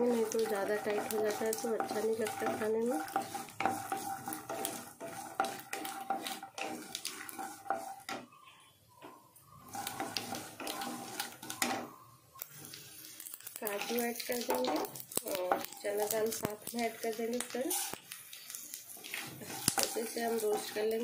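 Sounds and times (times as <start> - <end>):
sizzling in hot oil: 0.0 - 21.0
spatula stirring and scraping: 0.0 - 21.0.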